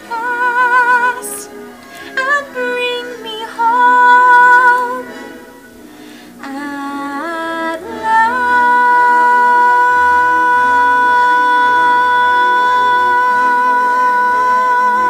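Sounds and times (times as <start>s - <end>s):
person singing a long high note: 0.0s - 15.0s.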